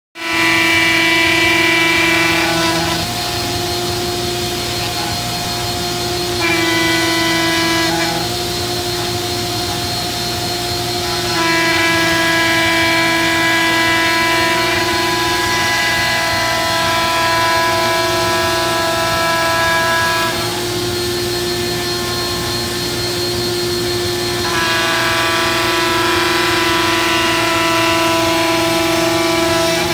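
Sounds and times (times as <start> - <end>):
router machine whine: 0.2 - 29.9.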